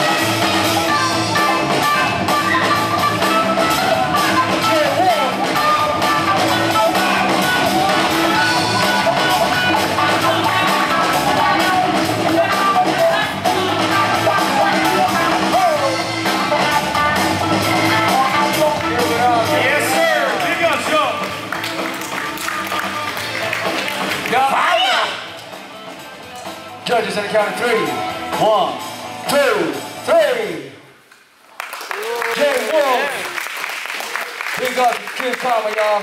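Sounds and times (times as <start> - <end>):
loud music with steady beat: 0.0 - 30.1.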